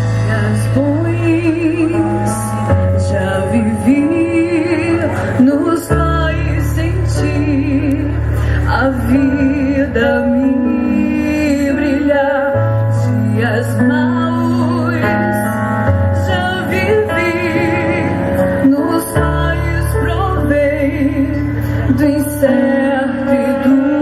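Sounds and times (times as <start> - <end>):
orchestra playing slow hymn: 0.0 - 24.0.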